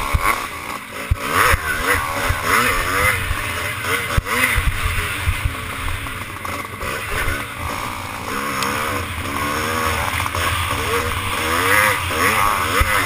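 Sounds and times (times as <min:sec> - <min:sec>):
low thuds over rough ground: 0:00.0 - 0:13.0
motocross bike engine revving: 0:00.0 - 0:13.0.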